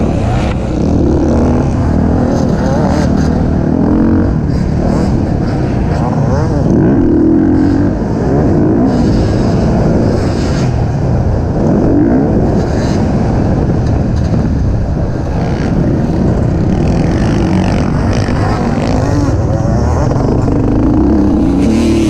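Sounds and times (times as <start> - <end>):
racing engine revving: 0.0 - 11.0, 15.0 - 22.0.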